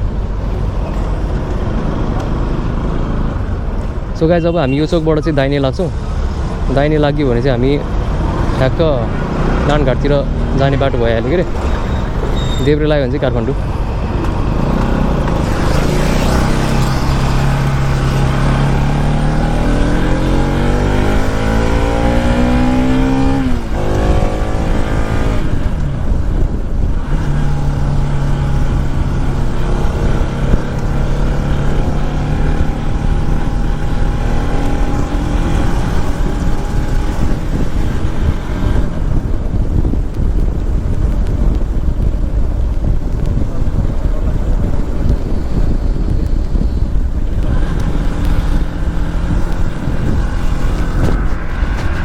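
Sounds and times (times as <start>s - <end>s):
road noise: 0.0s - 52.0s
motorcycle engine accelerating: 0.1s - 4.2s, 5.2s - 52.0s.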